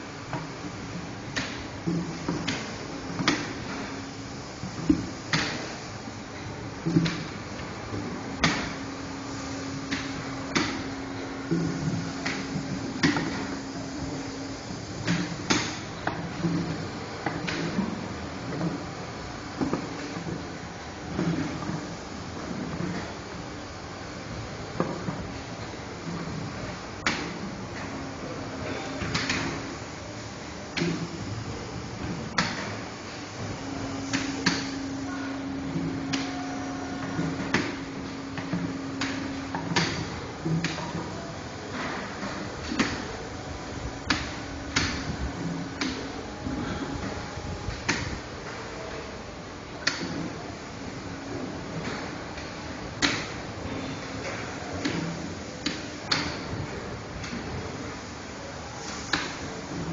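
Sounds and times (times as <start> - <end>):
factory machinery noise: 0.0 - 59.9
steady low hum: 0.0 - 59.9.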